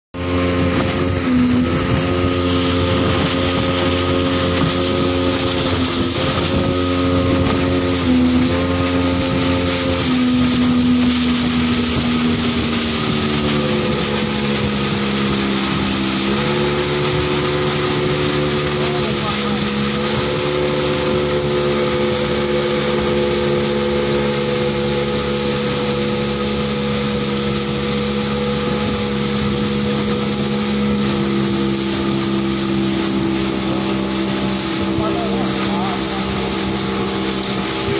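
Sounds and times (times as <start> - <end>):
outboard motor running: 0.1 - 37.9
water and wind rushing past hull: 0.2 - 37.9.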